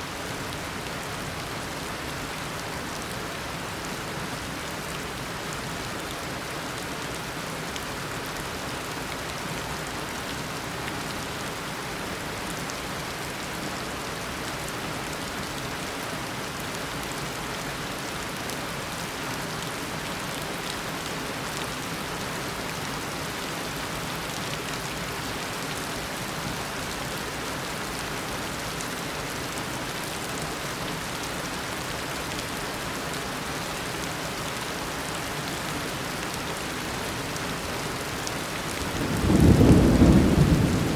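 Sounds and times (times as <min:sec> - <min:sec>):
heavy rain downpour: 0:00.0 - 0:40.9.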